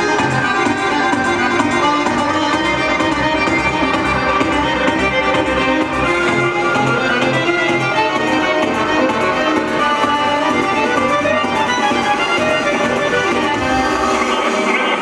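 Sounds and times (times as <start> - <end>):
violin melody with accompaniment: 0.0 - 15.0.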